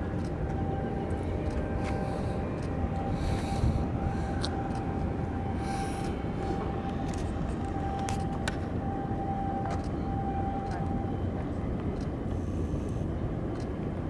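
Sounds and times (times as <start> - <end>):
faint steady whine: 0.0 - 14.0
low harbour rumble: 0.0 - 14.0.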